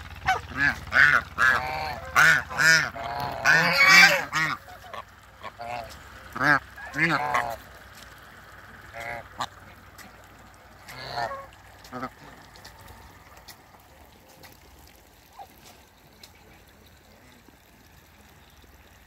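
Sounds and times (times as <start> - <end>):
geese honking: 0.0 - 16.4.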